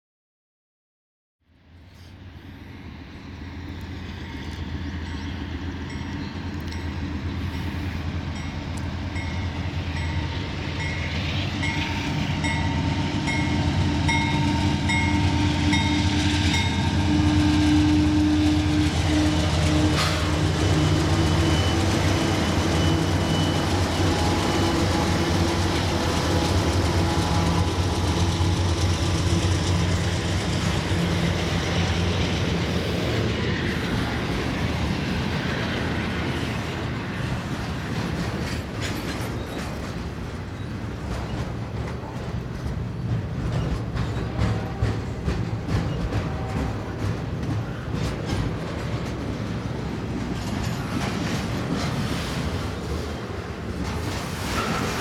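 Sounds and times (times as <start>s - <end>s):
diesel locomotive engines: 1.5s - 55.0s
railcar clank: 2.0s - 55.0s
train wheel noise: 2.0s - 55.0s.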